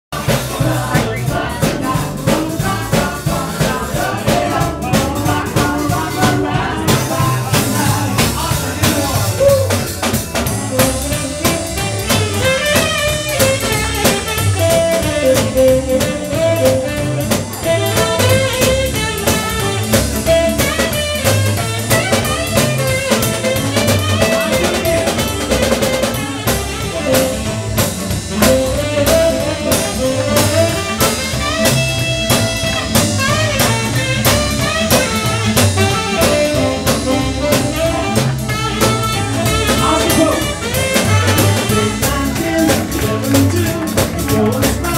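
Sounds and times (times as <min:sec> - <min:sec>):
drum kit beat: 0:00.1 - 0:44.9
guitars: 0:00.2 - 0:44.9.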